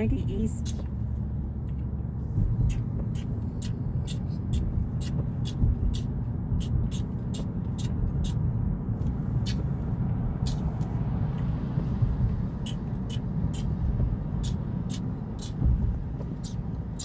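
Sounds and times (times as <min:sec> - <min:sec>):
road and engine rumble: 0:00.0 - 0:17.0
light sharp ticks: 0:00.6 - 0:01.9, 0:02.6 - 0:17.0.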